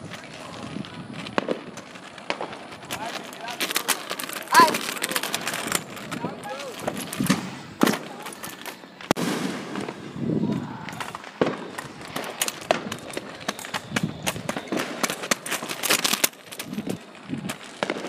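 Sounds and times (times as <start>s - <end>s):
firecrackers crackling: 0.0s - 18.0s
fireworks bangs and pops: 0.0s - 18.0s.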